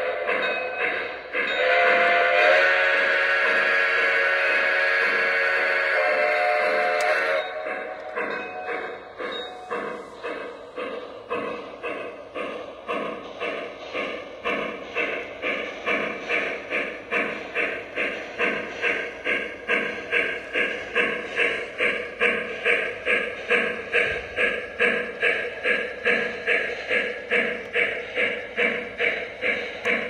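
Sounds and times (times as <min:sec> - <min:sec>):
model steam locomotive chuffing: 0:00.0 - 0:30.0.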